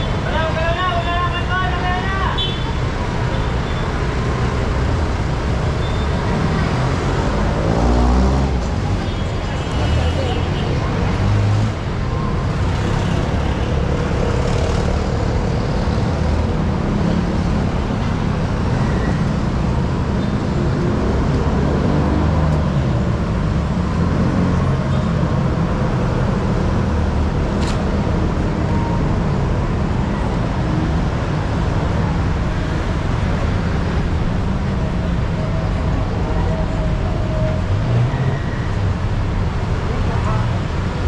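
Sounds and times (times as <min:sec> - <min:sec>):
city traffic rumble: 0:00.0 - 0:41.0.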